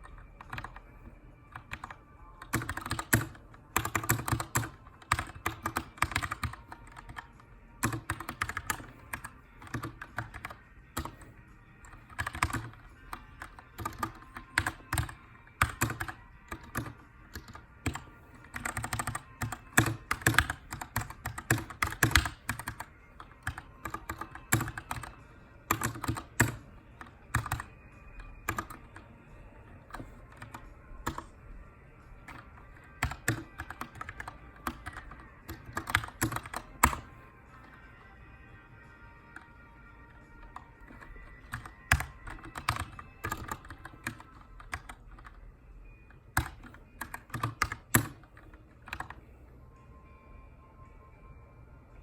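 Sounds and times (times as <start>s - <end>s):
mechanical keyboard typing: 0.0s - 0.9s, 1.5s - 29.0s, 29.8s - 31.3s, 32.2s - 37.1s, 40.3s - 45.4s, 46.3s - 49.2s.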